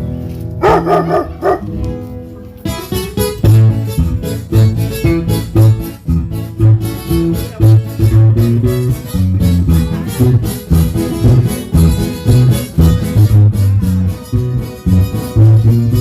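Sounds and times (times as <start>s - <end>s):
bass line: 0.0s - 16.0s
plucked guitar notes: 0.0s - 16.0s.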